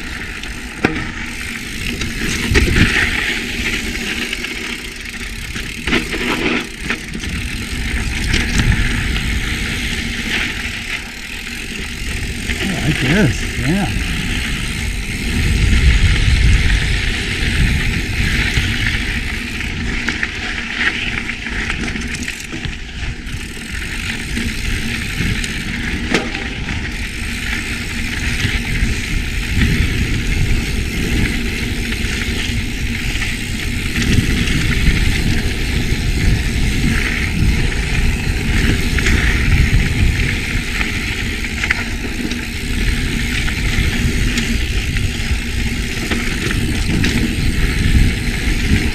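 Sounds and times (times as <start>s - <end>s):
bike tyre and trail noise: 0.0s - 48.9s
wind rush on microphone: 1.3s - 4.0s, 6.8s - 20.5s, 22.6s - 48.9s.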